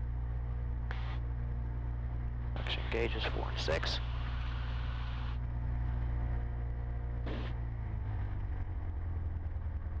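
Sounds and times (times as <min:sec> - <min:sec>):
small plane engine in cockpit: 0:00.0 - 0:10.0.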